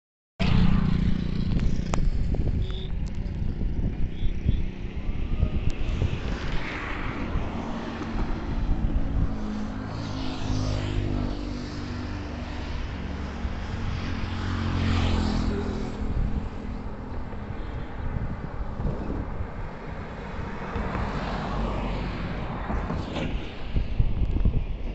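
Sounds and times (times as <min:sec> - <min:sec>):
road traffic passing: 0:00.4 - 0:24.9
wind rumble on microphone: 0:00.4 - 0:24.9.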